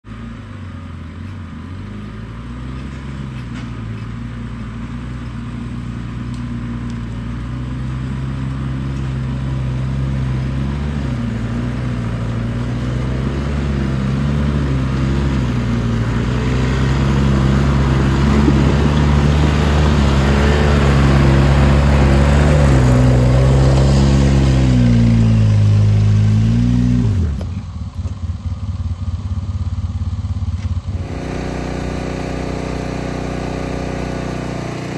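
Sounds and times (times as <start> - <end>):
atv engine running under load: 0.1 - 34.9.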